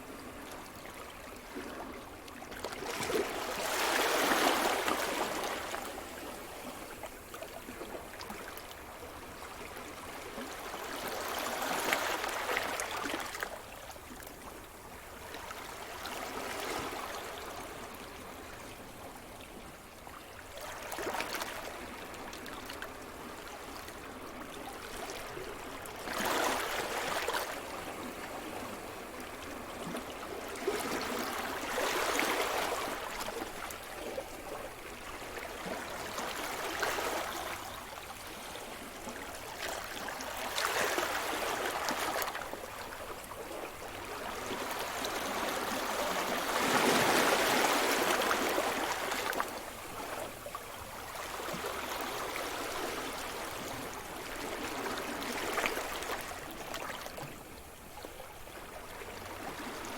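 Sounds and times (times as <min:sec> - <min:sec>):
small waves breaking on shore: 0:00.0 - 0:59.9.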